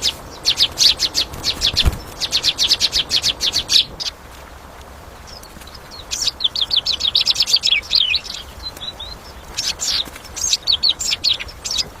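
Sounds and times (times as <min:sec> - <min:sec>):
small songbird chirping: 0:00.0 - 0:04.2, 0:05.1 - 0:12.0.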